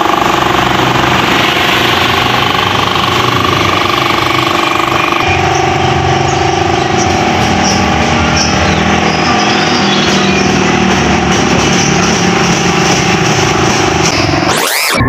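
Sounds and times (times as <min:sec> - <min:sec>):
loud rattling machine buzz: 0:00.0 - 0:15.0.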